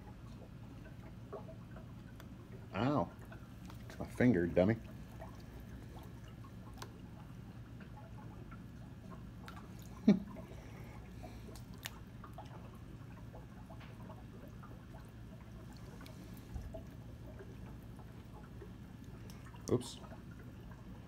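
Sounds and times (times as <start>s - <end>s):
aquarium water trickling: 0.0s - 21.0s
steady low hum: 0.0s - 21.0s
fish splashing at surface: 0.4s - 20.9s.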